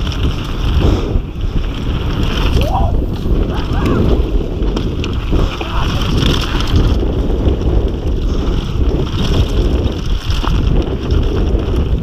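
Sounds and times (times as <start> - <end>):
tyres rumbling on dirt trail: 0.0 - 12.0
wind rushing over microphone: 0.0 - 12.0.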